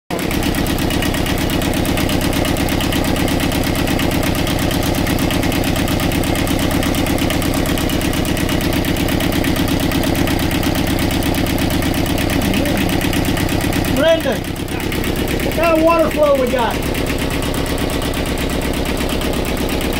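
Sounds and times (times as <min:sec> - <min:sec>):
marine diesel engine idling: 0:00.1 - 0:19.9.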